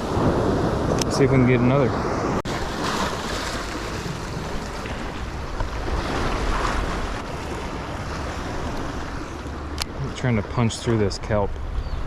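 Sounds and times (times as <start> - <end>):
wind on microphone: 0.0 - 10.0, 11.3 - 12.0
ocean surf washing on beach: 0.0 - 11.8.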